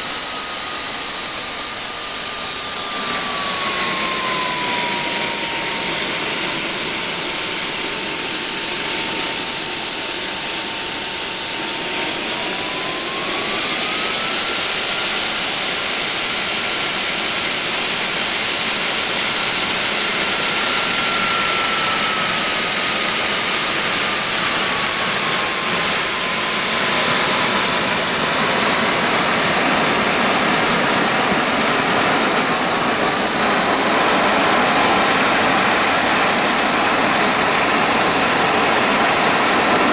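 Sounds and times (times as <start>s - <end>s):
jet engine roaring: 0.0s - 39.9s
turbine whine: 0.0s - 39.9s.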